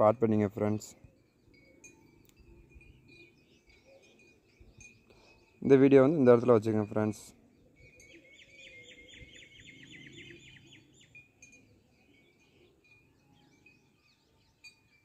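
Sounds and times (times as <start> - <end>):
faint bird chirping: 0.6 - 15.0.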